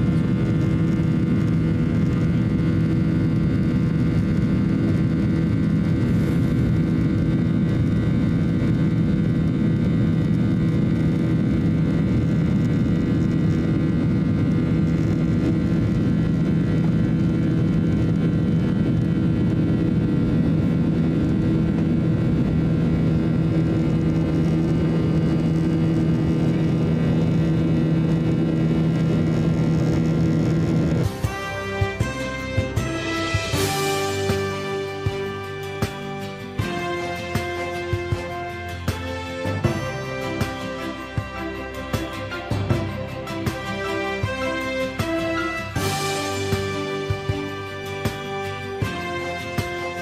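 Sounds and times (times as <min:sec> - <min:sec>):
humming engine tones: 0:00.0 - 0:48.2
jet engines and airflow rushing: 0:00.0 - 0:50.0.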